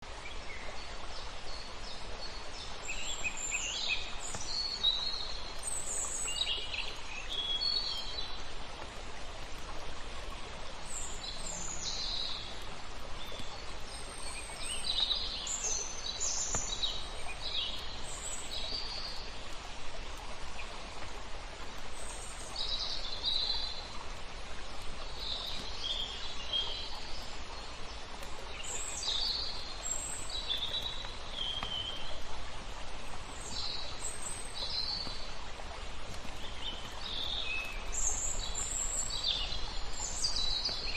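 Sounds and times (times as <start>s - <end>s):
flowing water hiss: 0.0s - 40.9s
small birds chirping and singing: 0.1s - 40.9s.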